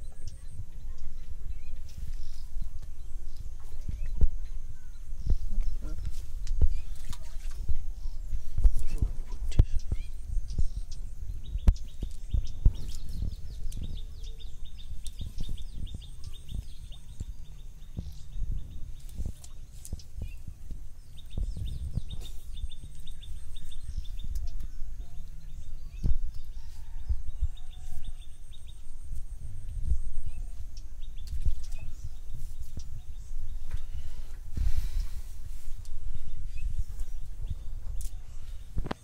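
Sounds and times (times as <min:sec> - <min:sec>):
wind rumbling on microphone: 0:00.0 - 0:39.0.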